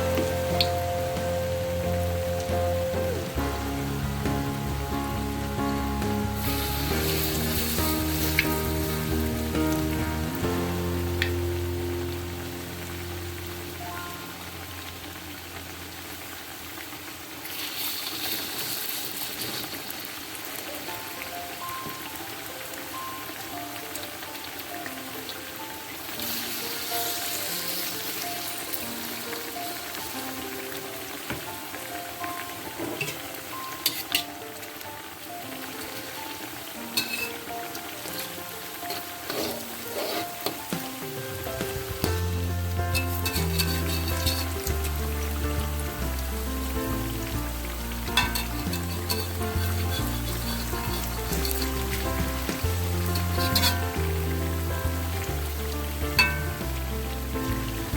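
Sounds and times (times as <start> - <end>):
background music: 0.0 - 16.2, 20.6 - 57.9
food sizzling in hot oil: 0.0 - 57.9
rain falling: 0.0 - 57.9.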